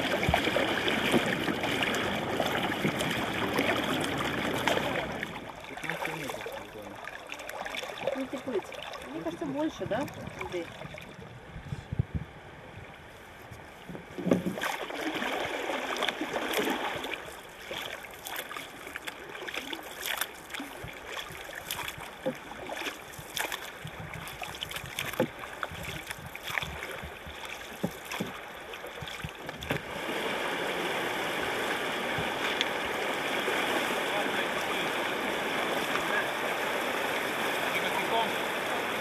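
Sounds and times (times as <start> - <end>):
paddles splashing in water: 0.0 - 11.5, 13.0 - 39.0
flowing river water: 0.0 - 39.0.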